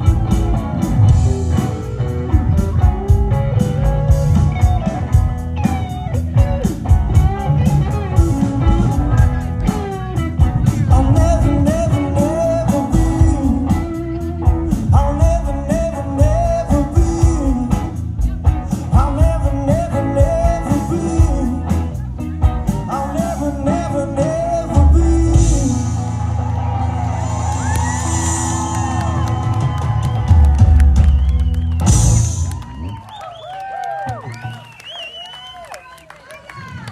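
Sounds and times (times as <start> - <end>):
live rock band playing: 0.0 - 34.8.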